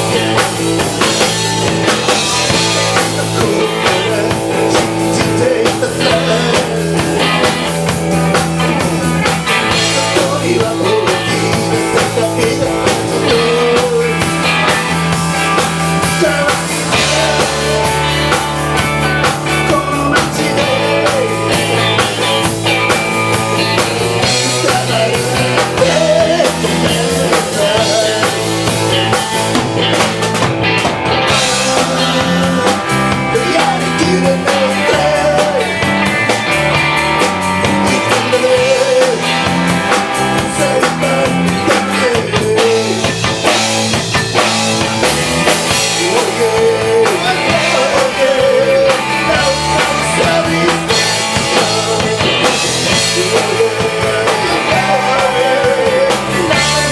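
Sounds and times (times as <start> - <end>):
person singing: 0.0 - 7.8, 8.9 - 22.4, 23.7 - 29.3, 31.2 - 36.2, 37.6 - 43.5, 45.6 - 56.9
rock band playing live: 0.0 - 56.9.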